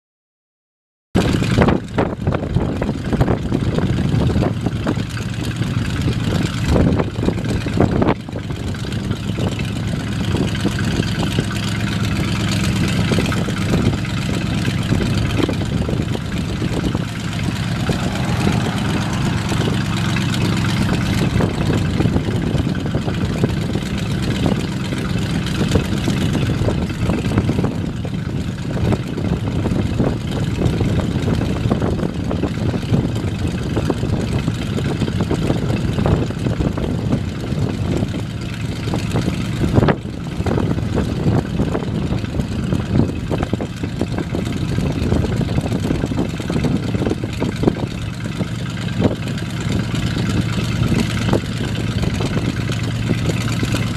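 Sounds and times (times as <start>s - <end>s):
truck engine idling: 2.0s - 53.9s.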